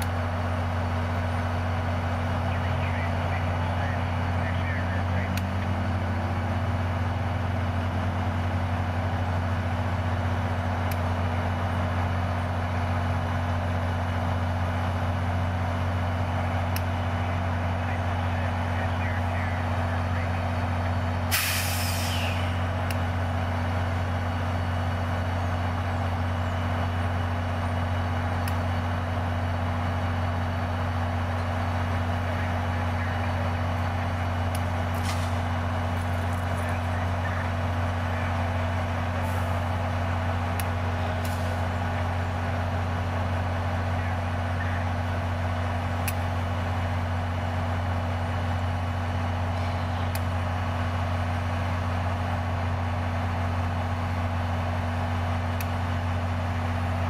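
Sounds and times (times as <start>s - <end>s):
locomotive engine idling: 0.0s - 57.0s.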